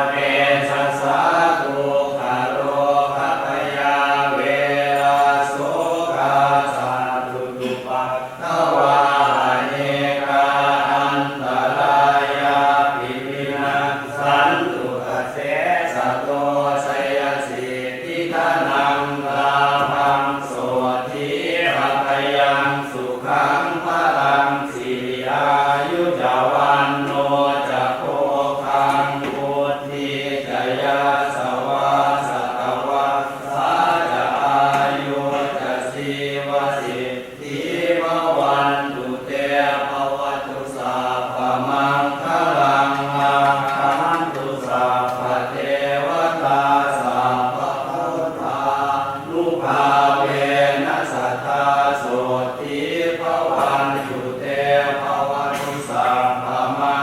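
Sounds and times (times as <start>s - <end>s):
chanting recitation: 0.0s - 57.0s.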